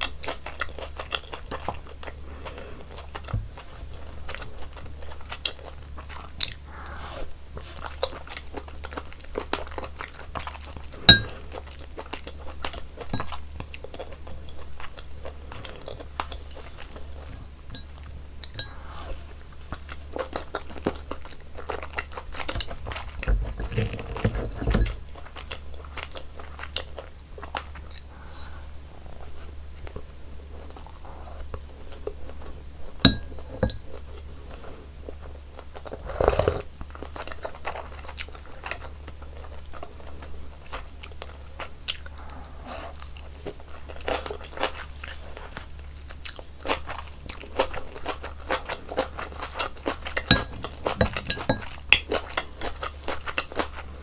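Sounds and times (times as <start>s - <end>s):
close chewing and eating: 0.0s - 54.0s.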